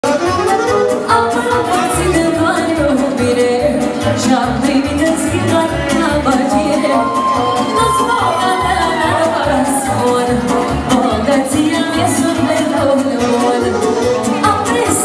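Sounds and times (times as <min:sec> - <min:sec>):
accordion: 0:00.0 - 0:15.0
saxophone: 0:00.0 - 0:15.0
woman singing into a microphone: 0:01.0 - 0:15.0.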